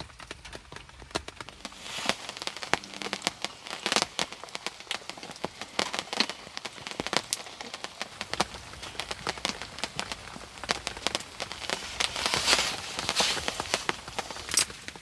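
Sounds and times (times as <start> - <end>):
rain drops tapping hard surface: 0.0 - 15.0
soft patter of rain: 0.0 - 15.0.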